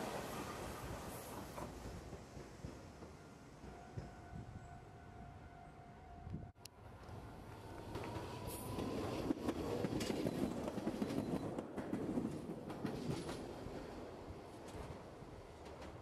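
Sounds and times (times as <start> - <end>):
tram passing: 0.0 - 16.0.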